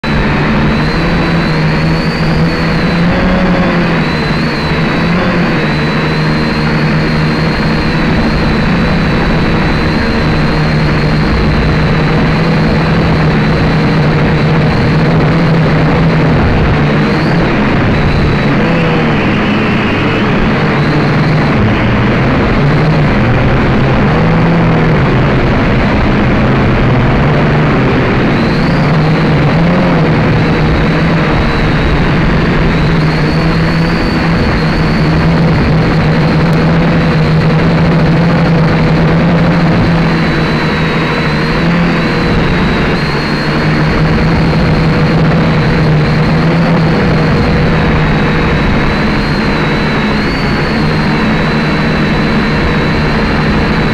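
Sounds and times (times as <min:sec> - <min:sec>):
drone propellers whirring: 0:00.0 - 0:53.9
wind rushing over microphone: 0:00.0 - 0:53.9.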